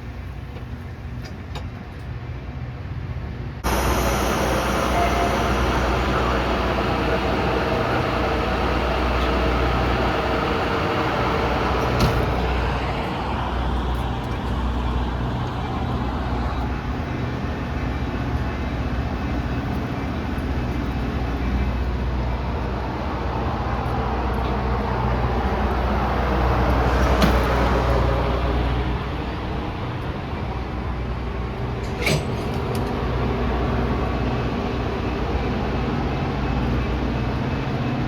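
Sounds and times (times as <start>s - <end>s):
train rolling rumble: 0.0s - 38.0s.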